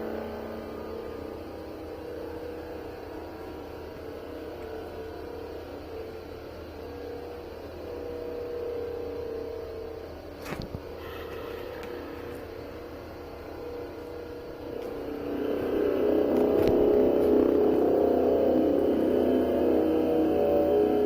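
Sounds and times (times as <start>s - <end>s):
loud droning hum: 0.0s - 21.0s.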